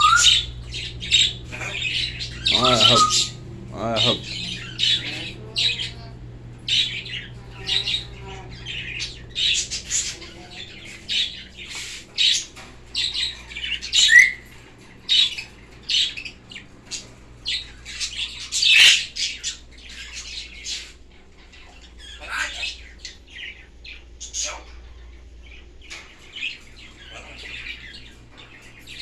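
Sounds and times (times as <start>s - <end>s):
birds squawking: 0.0s - 29.0s.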